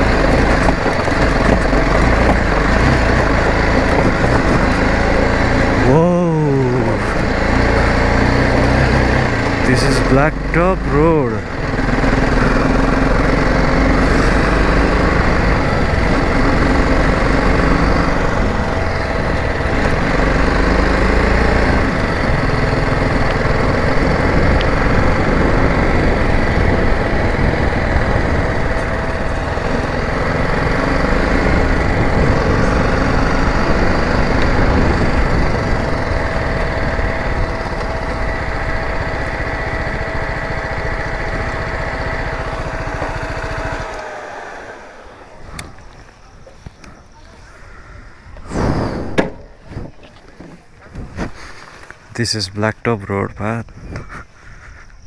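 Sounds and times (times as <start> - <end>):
motorcycle engine rumbling: 0.0 - 55.0.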